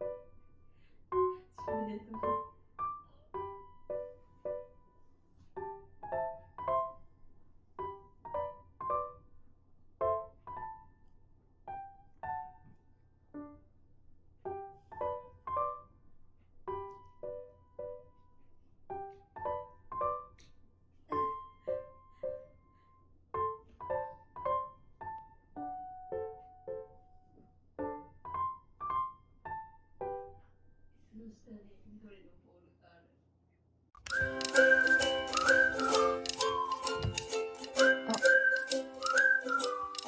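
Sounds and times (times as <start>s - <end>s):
gentle piano melody: 0.0s - 9.4s, 10.0s - 13.8s, 14.4s - 20.5s, 23.3s - 30.4s, 34.1s - 40.0s.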